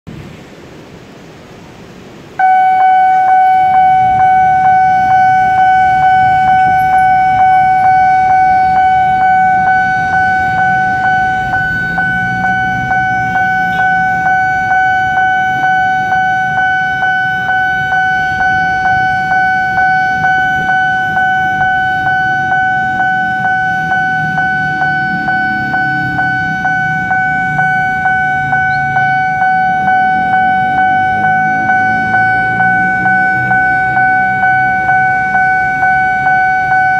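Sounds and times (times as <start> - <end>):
road traffic rumbling: 0.0 - 36.9
level crossing warning alarm: 2.4 - 36.9.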